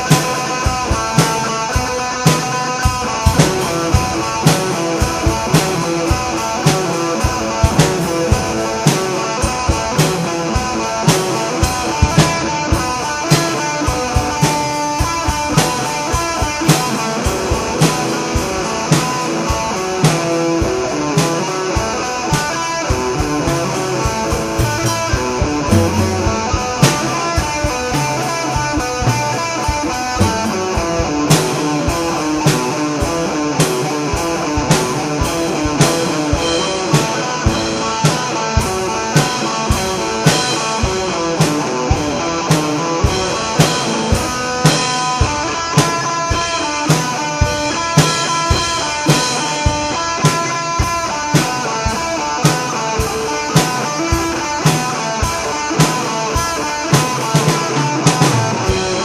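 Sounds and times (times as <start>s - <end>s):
drum beat: 0.0s - 59.0s
rock guitar: 0.0s - 59.0s.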